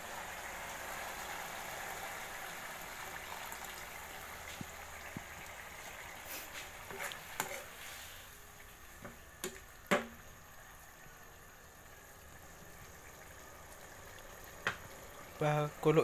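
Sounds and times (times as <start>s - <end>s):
broth bubbling: 0.1s - 16.0s.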